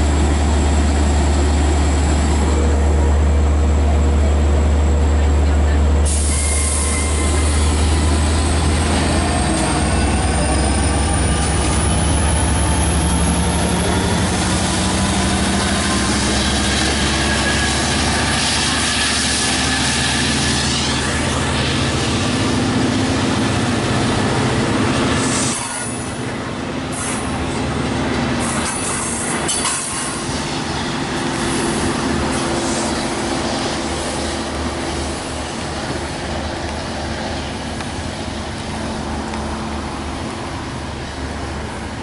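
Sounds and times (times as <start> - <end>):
locomotive low drone: 0.0 - 42.0
train wheels on rails: 0.0 - 42.0.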